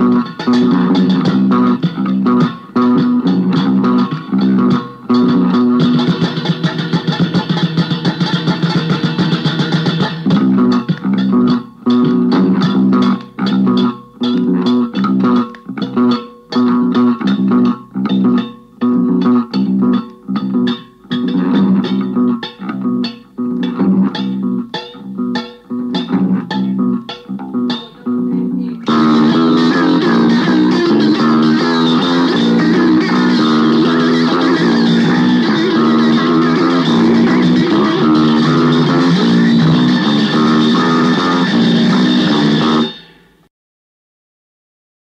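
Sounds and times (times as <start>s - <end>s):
indie rock band playing: 0.0s - 43.3s
plucked guitar and bass phrases: 0.0s - 43.4s.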